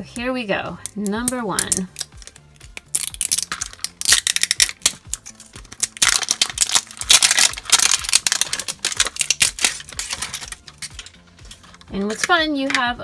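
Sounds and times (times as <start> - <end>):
faint background music: 0.0 - 13.0
plastic shrink-wrap crinkling and tearing: 1.6 - 12.3.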